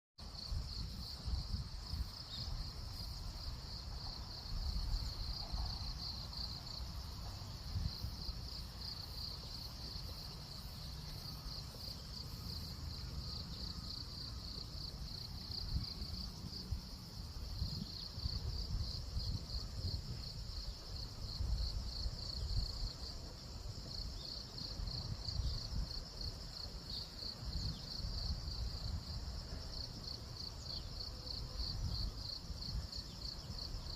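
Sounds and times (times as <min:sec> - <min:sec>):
crickets trilling: 0:00.2 - 0:33.9.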